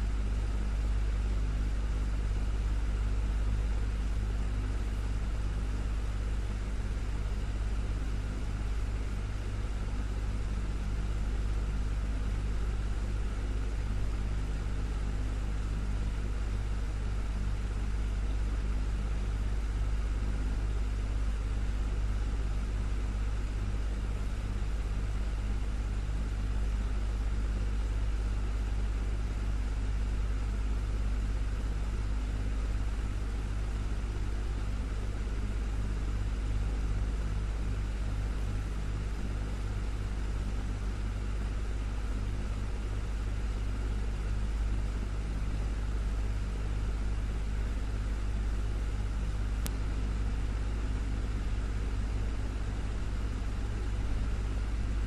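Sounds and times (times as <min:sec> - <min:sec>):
desktop fan whirring: 0:00.0 - 0:55.0.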